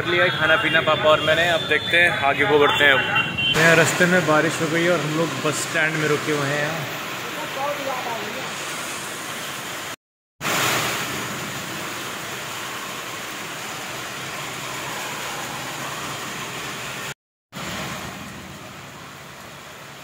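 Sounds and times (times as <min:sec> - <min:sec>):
rain falling: 0:03.6 - 0:20.0.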